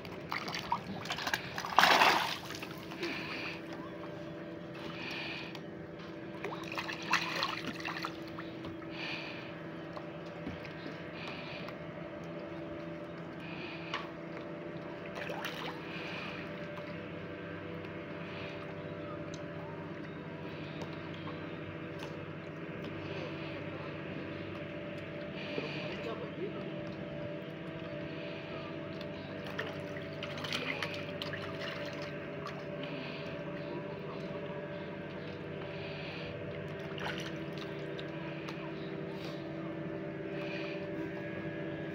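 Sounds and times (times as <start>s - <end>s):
steady low hum: 0.0s - 41.9s
water lapping against boat: 0.0s - 41.9s.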